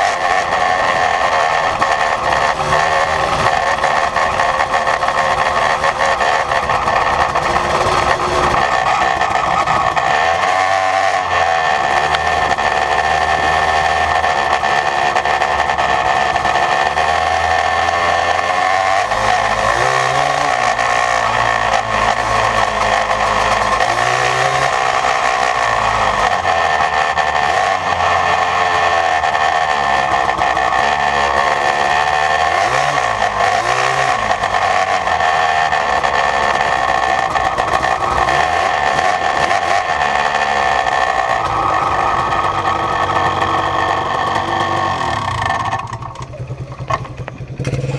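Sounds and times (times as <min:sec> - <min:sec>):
two-stroke engine revving: 0:00.0 - 0:47.9.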